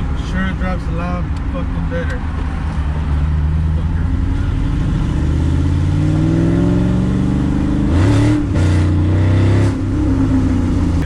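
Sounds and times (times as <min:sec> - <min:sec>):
car engine accelerating: 0:02.1 - 0:11.0.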